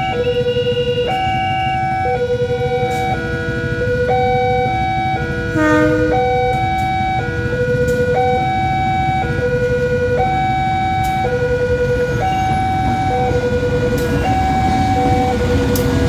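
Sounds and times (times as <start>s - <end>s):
level-crossing alarm chime: 0.0s - 16.0s.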